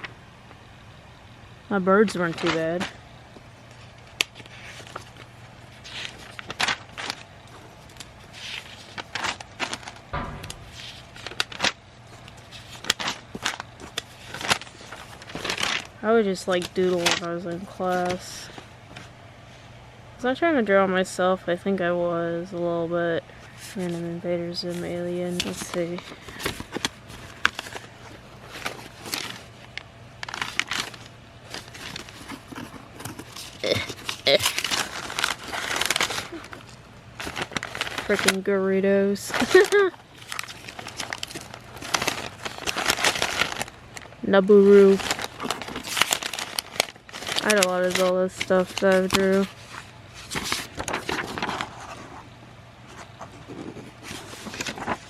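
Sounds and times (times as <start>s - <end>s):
paper rustling: 2.1s - 2.9s, 3.7s - 19.1s, 23.6s - 55.0s.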